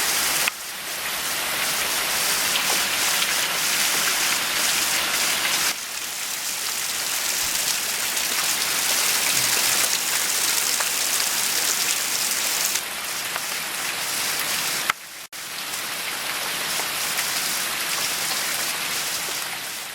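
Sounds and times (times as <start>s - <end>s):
heavy rain hissing: 0.0s - 19.9s.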